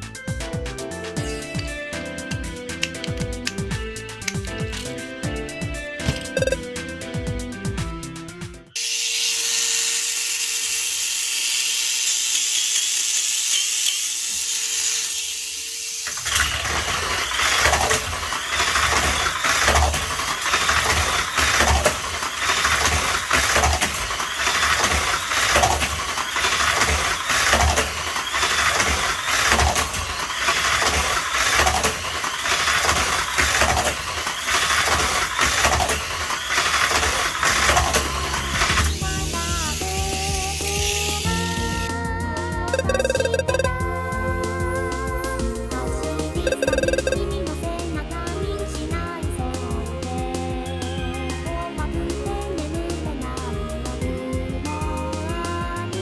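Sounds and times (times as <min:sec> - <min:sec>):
toy car motor whining: 0:01.2 - 0:05.0, 0:06.0 - 0:06.7, 0:08.8 - 0:56.0.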